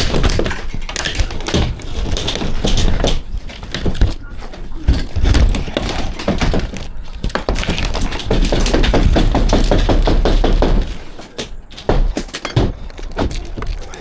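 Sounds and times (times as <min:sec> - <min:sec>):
roof panels cracking and knocking: 0:00.0 - 0:14.0.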